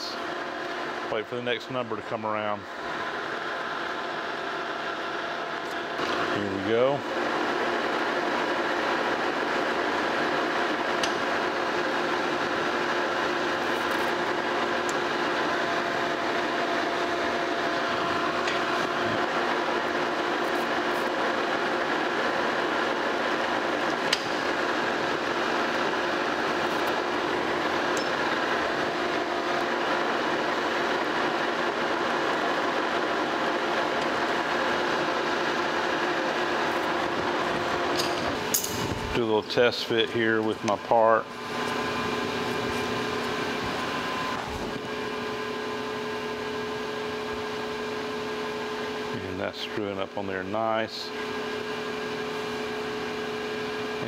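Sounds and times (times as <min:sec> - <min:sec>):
metal lathe running: 0:02.6 - 0:50.5, 0:51.1 - 0:54.0.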